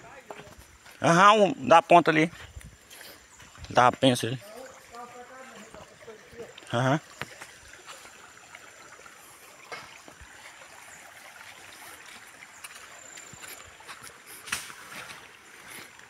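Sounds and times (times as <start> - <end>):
stream water trickling: 0.0 - 16.0.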